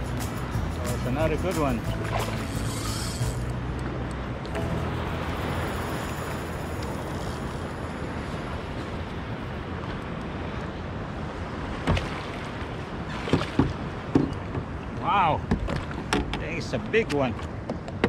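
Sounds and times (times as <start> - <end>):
water noise: 0.0 - 18.0.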